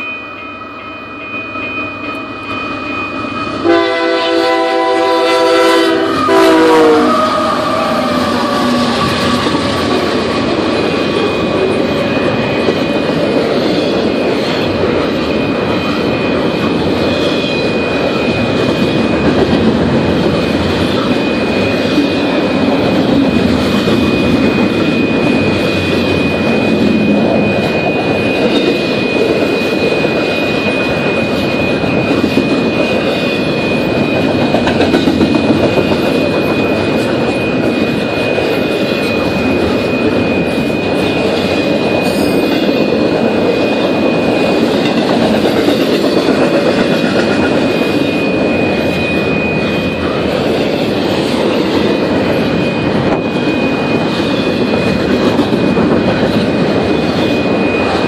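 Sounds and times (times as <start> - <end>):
train wheels rumbling on rail: 0.8 - 58.0.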